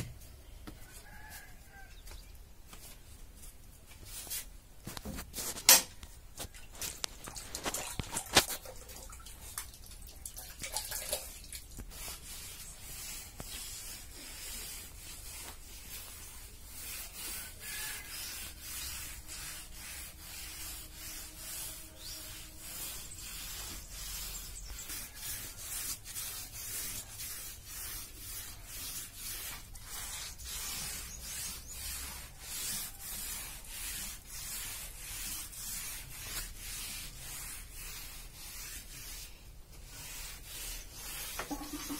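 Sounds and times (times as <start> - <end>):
floor coating scraping: 0.0 - 8.8, 11.2 - 41.9.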